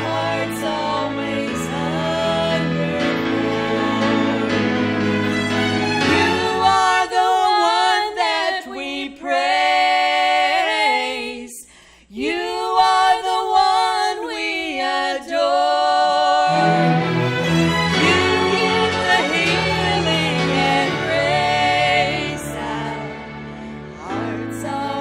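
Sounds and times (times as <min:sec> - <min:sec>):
women singing gospel duet: 0:00.0 - 0:05.0, 0:06.0 - 0:25.0
lower backing vocal: 0:00.0 - 0:25.0.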